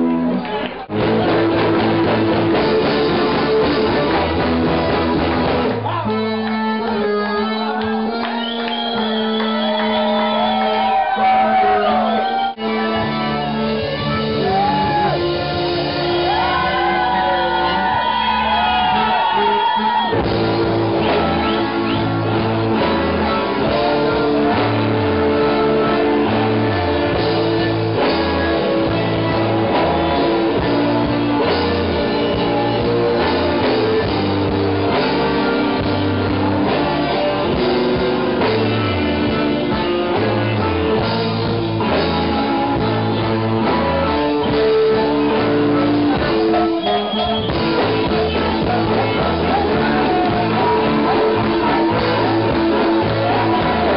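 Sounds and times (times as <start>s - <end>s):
electric guitar: 0.0s - 53.9s
live rock band playing: 0.0s - 53.9s.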